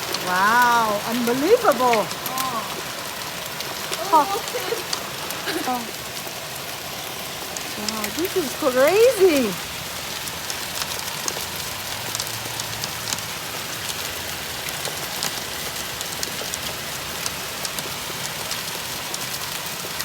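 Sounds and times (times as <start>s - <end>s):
hailstones ticking: 0.0s - 20.0s
rain patter: 0.0s - 20.0s.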